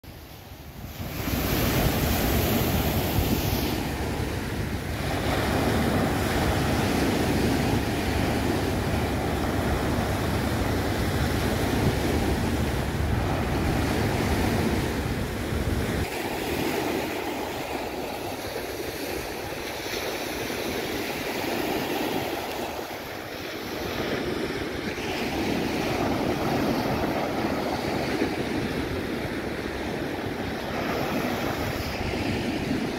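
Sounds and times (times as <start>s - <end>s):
small waves washing onto beach: 0.0s - 32.9s
wind rumbling on microphone: 0.0s - 32.9s.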